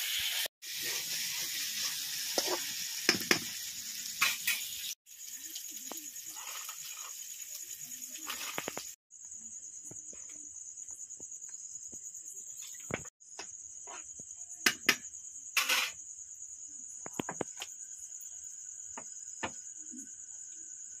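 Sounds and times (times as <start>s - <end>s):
crickets chirping: 0.7s - 21.0s.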